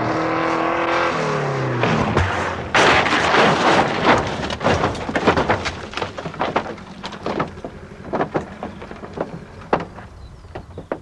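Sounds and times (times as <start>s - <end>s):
car crashing and metal crunching: 1.8s - 11.0s
knocks and clinks of wreck: 1.8s - 11.0s.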